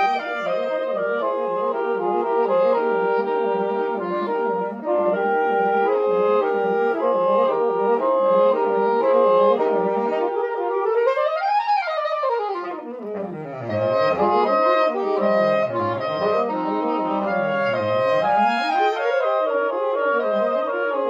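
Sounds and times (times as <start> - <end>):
saxophone quartet playing: 0.0 - 21.0.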